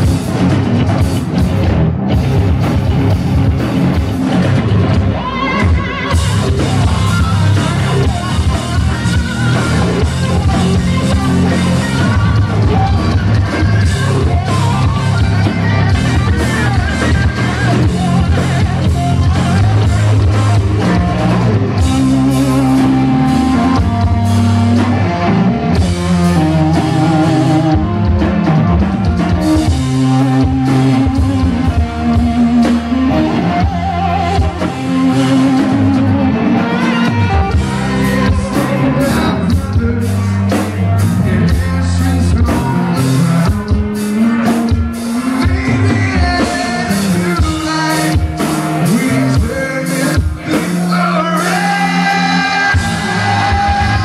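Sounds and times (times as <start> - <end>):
hard rock band playing live: 0.0 - 54.0.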